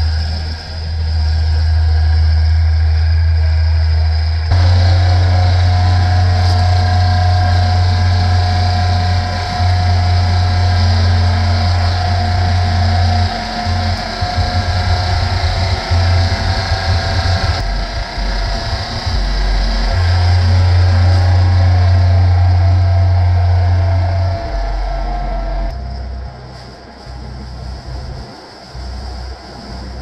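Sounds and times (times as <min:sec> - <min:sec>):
diesel mower engine running: 0:00.0 - 0:30.0.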